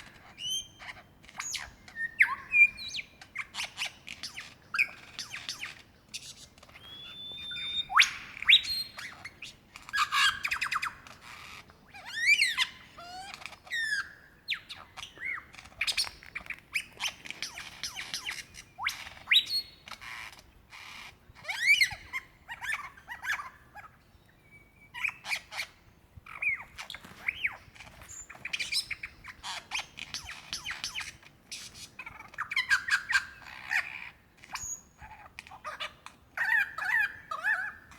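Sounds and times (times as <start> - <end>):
lyrebird singing varied calls: 0.0 - 37.9.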